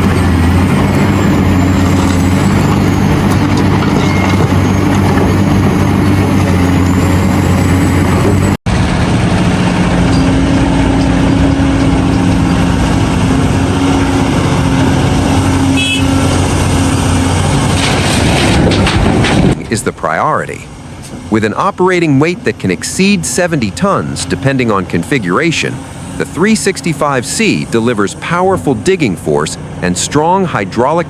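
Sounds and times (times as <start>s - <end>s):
heavy diesel engine drone: 0.0s - 31.0s.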